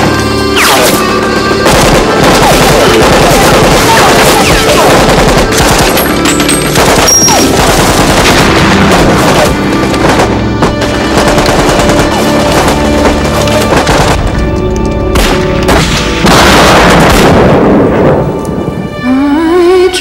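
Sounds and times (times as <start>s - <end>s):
film music: 0.0s - 20.0s
rifle shots: 0.6s - 14.3s, 15.1s - 17.8s
machine-gun fire: 0.6s - 14.4s, 15.2s - 17.8s.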